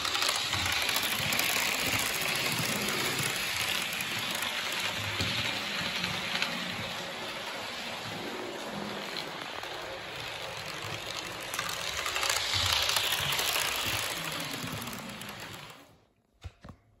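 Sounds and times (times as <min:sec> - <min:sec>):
train passing: 0:00.0 - 0:16.1.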